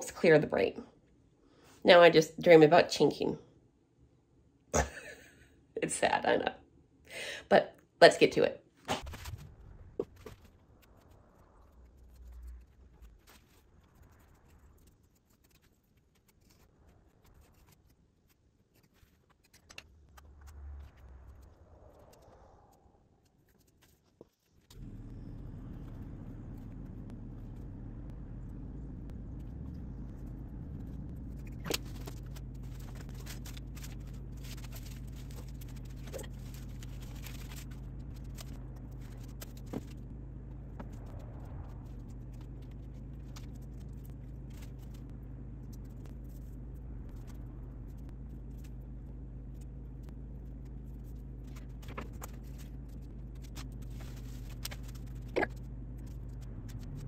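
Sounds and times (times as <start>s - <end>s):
low hum: 8.8s - 57.0s.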